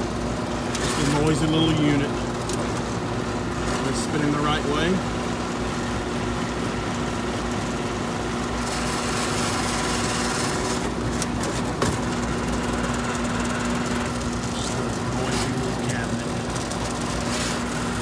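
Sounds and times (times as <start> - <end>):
air conditioner unit running: 0.0 - 18.0.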